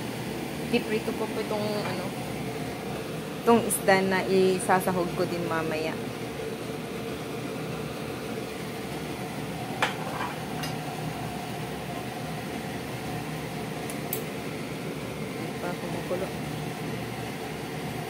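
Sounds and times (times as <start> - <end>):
kitchen background hum: 0.0 - 18.0.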